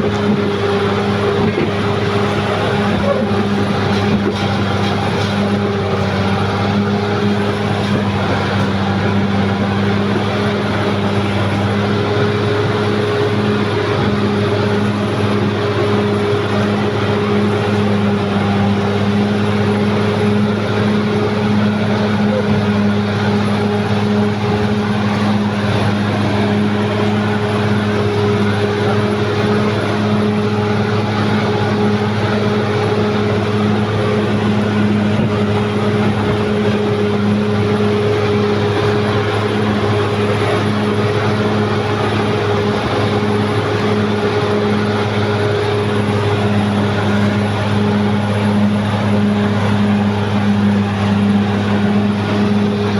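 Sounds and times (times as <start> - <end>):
bulldozer diesel engine droning: 0.0 - 52.9.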